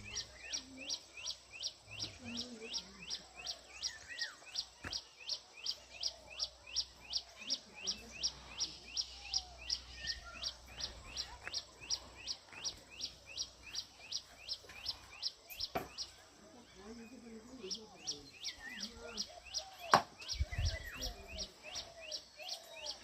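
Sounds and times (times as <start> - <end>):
other birds calling: 0.0 - 23.0.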